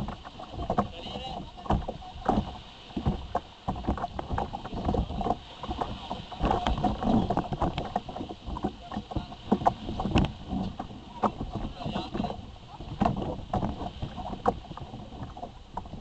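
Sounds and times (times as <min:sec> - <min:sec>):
knocks on hull: 0:00.0 - 0:16.0
water slapping against kayak hull: 0:00.0 - 0:16.0.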